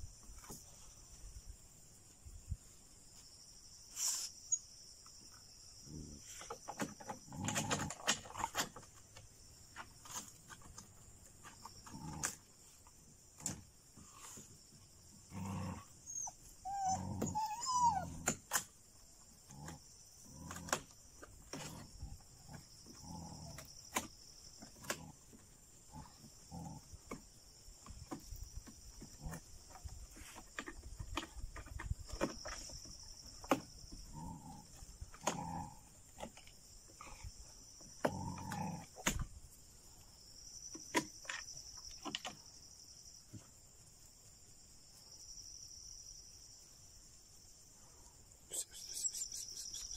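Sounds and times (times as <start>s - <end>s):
crickets chirring: 0.0s - 49.9s.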